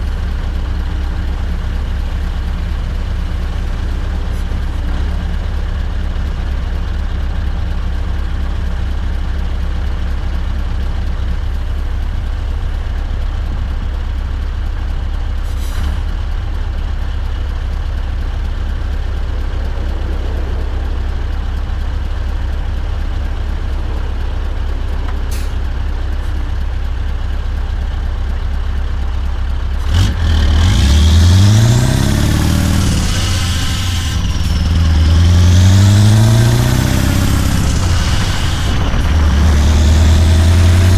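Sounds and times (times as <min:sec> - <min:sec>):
truck engine idling and revving: 0:00.0 - 0:40.9.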